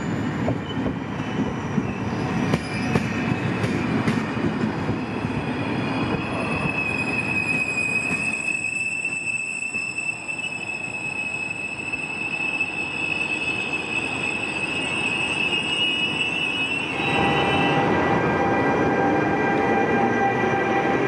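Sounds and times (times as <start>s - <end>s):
electric locomotive passing: 0.0s - 21.0s
rail noise: 0.0s - 21.0s
train wheels squealing: 0.0s - 21.0s.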